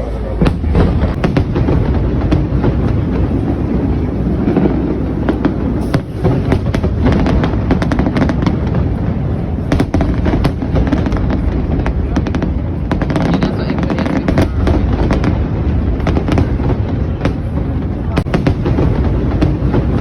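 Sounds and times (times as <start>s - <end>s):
deep rumble of bursts: 0.0s - 20.0s
fireworks cracking and popping: 0.0s - 20.0s.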